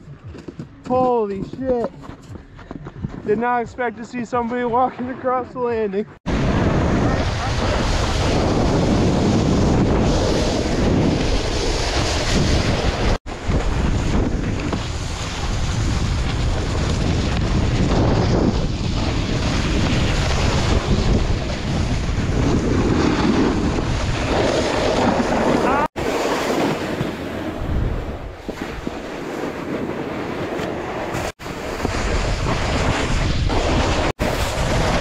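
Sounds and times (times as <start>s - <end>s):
snowboard scraping packed snow: 6.3s - 35.0s
wind on microphone: 6.3s - 35.0s.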